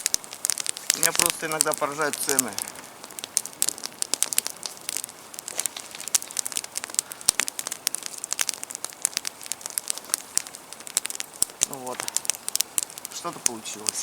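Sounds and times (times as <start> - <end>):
campfire crackling and snapping: 0.0 - 14.0.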